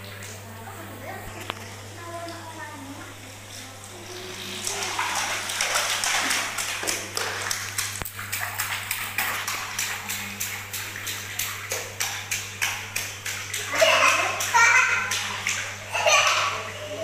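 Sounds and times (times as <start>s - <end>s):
bathwater splashing: 0.0s - 17.0s.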